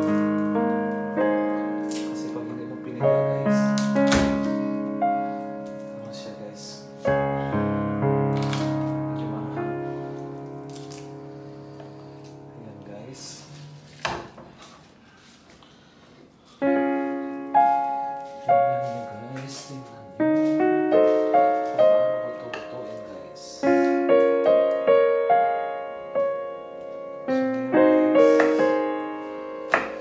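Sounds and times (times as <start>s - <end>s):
piano music: 0.0s - 15.1s, 16.4s - 30.0s.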